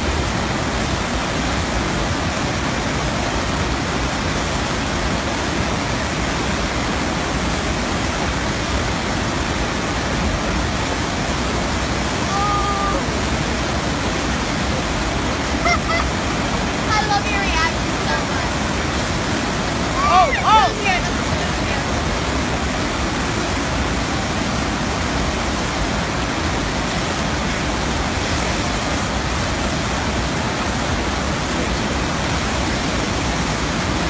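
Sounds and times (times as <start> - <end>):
rushing sheet of water: 0.0 - 34.0.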